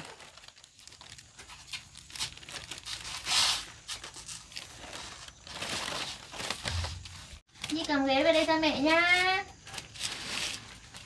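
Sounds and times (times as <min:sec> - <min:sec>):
dry papery rustling and crinkling: 0:00.0 - 0:11.0.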